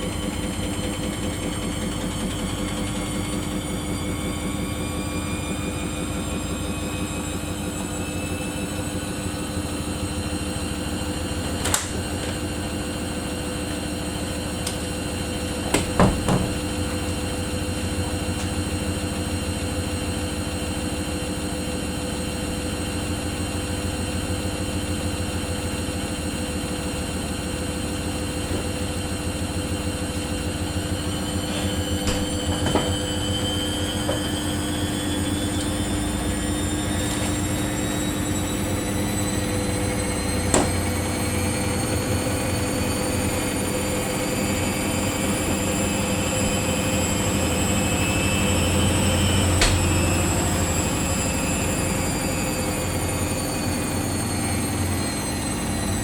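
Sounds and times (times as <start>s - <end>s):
motor whine: 0.0s - 56.0s
washing machine drum pulsing: 0.0s - 56.0s.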